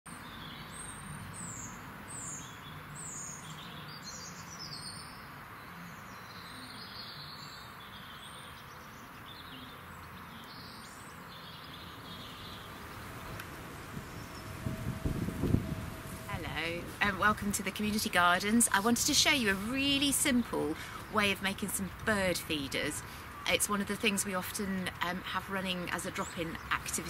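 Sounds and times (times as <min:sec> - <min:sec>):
small birds calling: 0:00.2 - 0:27.0
steady background hiss: 0:00.3 - 0:27.0.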